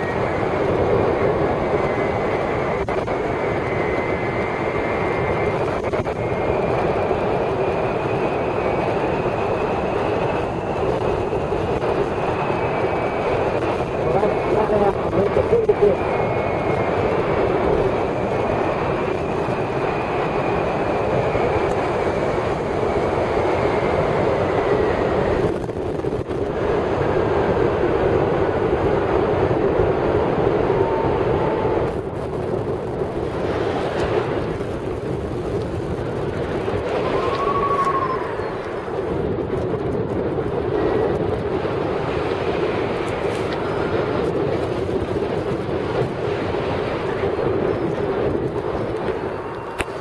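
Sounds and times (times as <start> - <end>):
wind rushing on microphone: 0.0 - 50.0.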